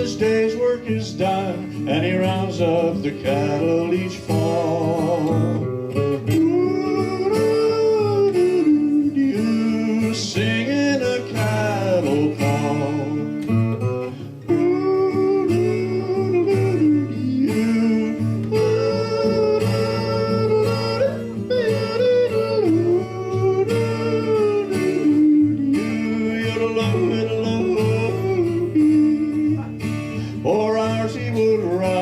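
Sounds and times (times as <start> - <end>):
man yodeling: 0.0 - 13.5, 14.4 - 29.8
strummed guitar: 0.0 - 32.0.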